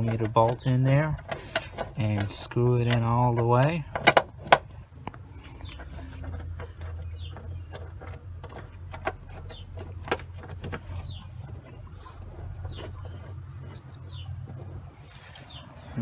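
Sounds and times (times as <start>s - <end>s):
sharp metal clicks: 0.0s - 14.8s.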